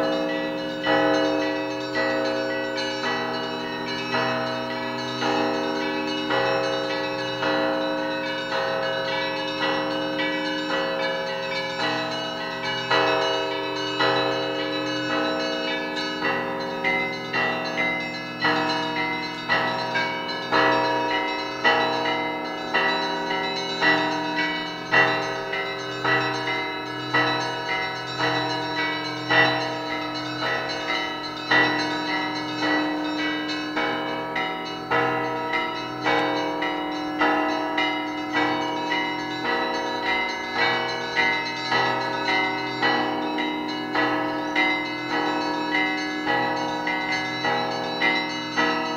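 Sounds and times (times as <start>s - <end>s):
large bells humming: 0.0s - 48.9s
small bells chiming: 0.0s - 48.9s.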